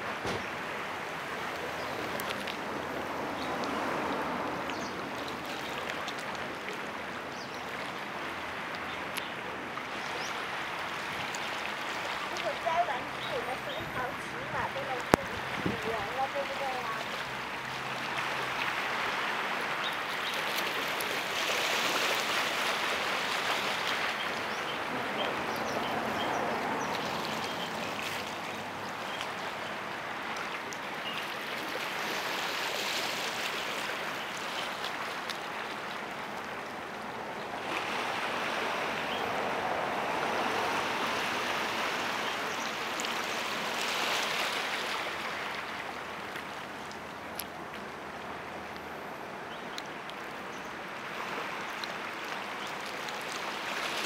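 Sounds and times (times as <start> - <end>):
water rushing and splashing: 0.0 - 54.0.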